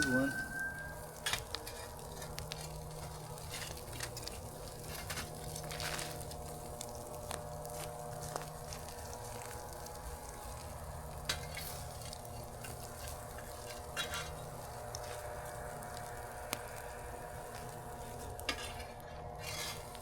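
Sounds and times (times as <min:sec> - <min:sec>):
meat sizzling on a grill: 0:00.0 - 0:20.0.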